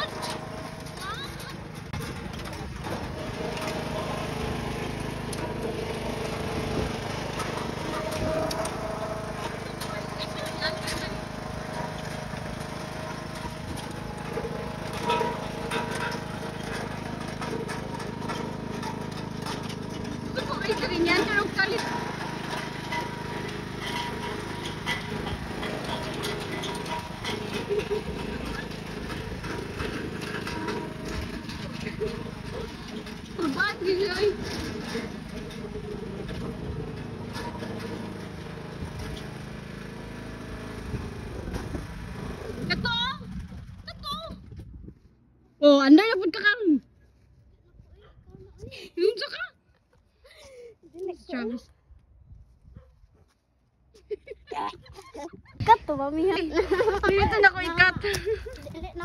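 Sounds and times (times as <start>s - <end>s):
lawn tractor engine running: 0.0s - 44.3s, 55.7s - 59.0s.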